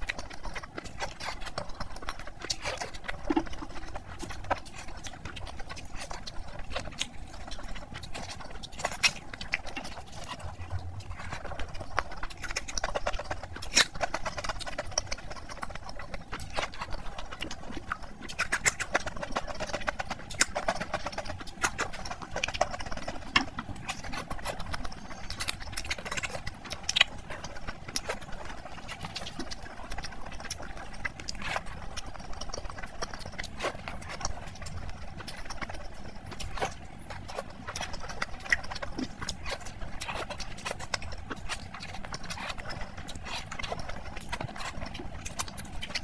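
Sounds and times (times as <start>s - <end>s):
wet chewing and lip-smacking: 0.0s - 46.0s.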